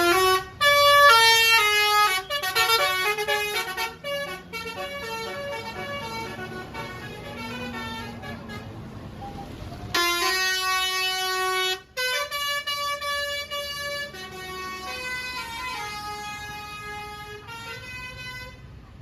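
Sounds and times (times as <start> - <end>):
multi-note bus horn tune: 0.0 - 9.2, 9.9 - 18.7.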